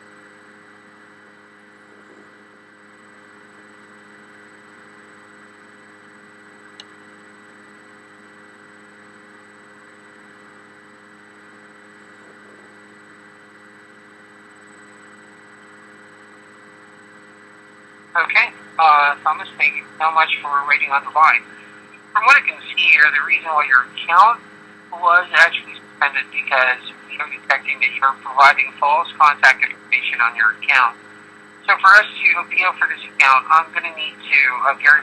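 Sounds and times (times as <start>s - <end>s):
telephone line electrical hum: 0.0s - 35.0s.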